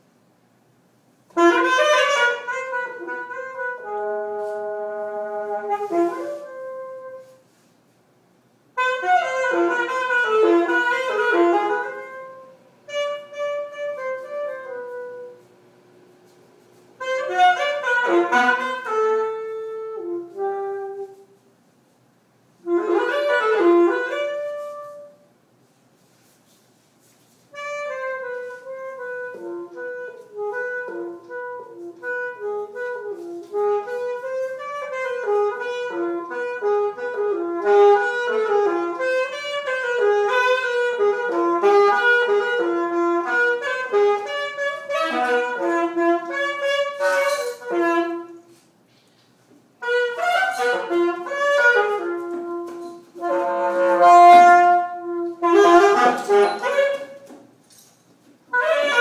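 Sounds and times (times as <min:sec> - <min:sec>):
solo saxophone improvising: 0:01.3 - 0:07.7, 0:08.7 - 0:15.6, 0:16.3 - 0:22.0, 0:22.6 - 0:25.3, 0:26.0 - 0:59.0.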